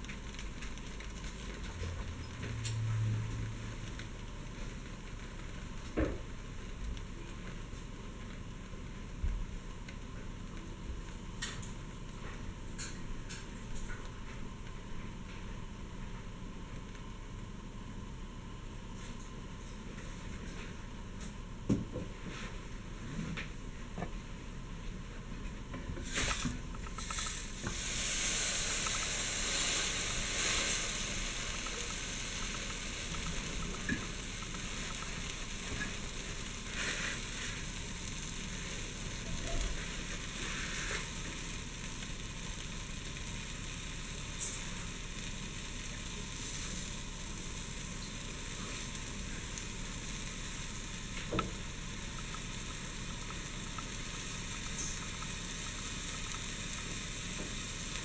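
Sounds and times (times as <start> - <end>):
sandwich sizzling in skillet: 0.0 - 16.1, 26.0 - 58.0.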